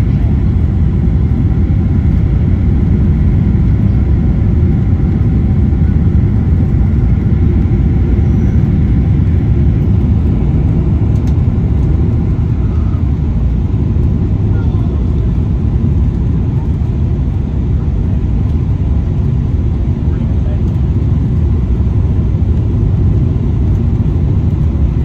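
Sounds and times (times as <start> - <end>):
airplane cabin rumble: 0.0 - 25.0
jet engine and airflow noise: 0.0 - 25.0.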